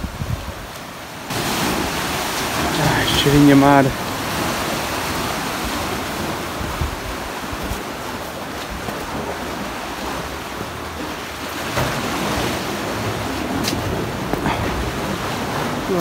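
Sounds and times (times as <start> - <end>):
wind buffeting microphone: 0.0 - 0.8, 1.6 - 16.0
sea water washing against rocks: 0.0 - 16.0.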